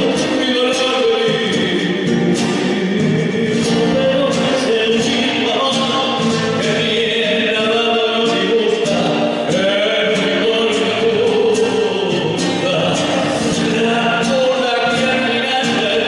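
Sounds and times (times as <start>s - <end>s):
voices singing together: 0.0s - 16.0s.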